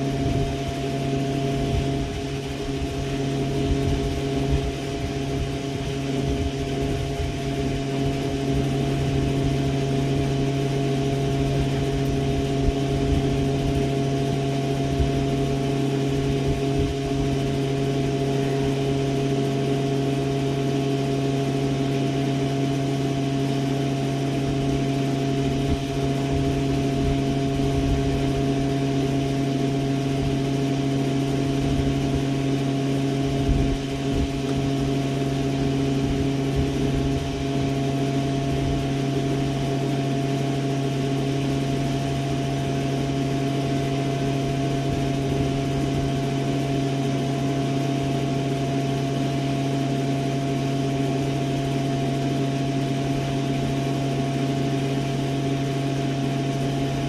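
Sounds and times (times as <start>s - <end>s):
machine hum: 0.0s - 57.0s.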